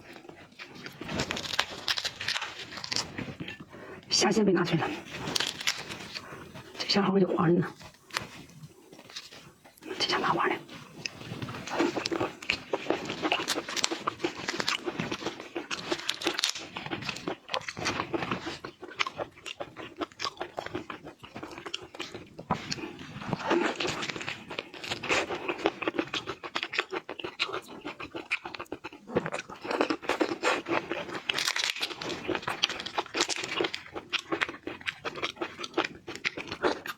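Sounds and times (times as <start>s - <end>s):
person chewing shrimp: 0.0s - 4.1s, 4.9s - 6.8s, 7.8s - 36.9s.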